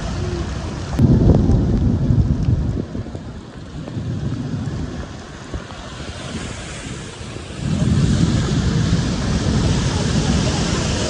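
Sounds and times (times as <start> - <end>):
rain hiss: 0.0 - 11.0
wind buffeting microphone: 0.0 - 11.0.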